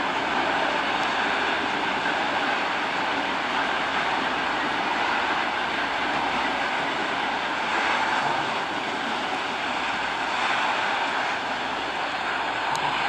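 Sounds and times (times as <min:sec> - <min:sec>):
freight train wheels rolling: 0:00.0 - 0:13.0.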